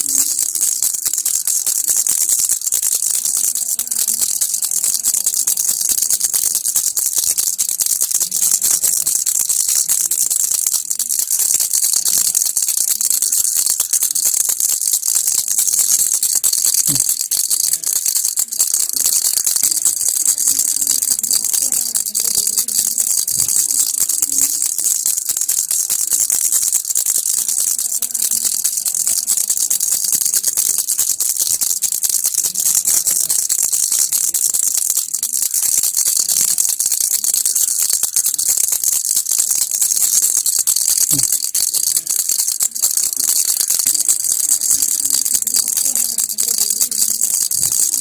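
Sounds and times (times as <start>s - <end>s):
baby's toy rattle shaken: 0.0s - 48.0s.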